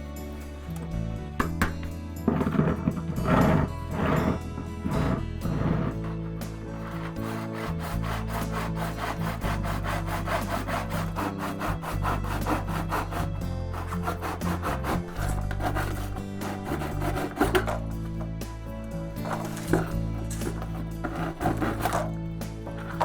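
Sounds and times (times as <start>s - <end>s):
background music with bass notes: 0.0s - 23.0s
saw cutting plastic: 1.6s - 23.0s.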